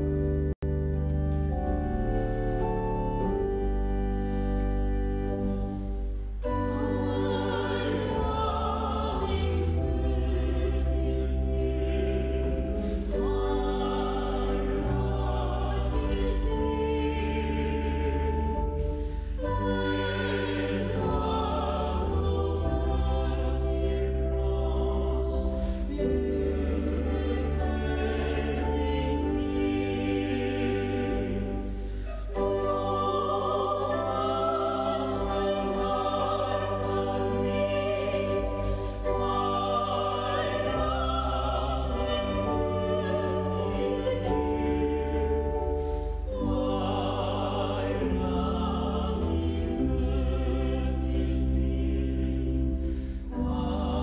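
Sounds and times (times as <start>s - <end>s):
church singing with accompaniment: 0.0s - 54.0s.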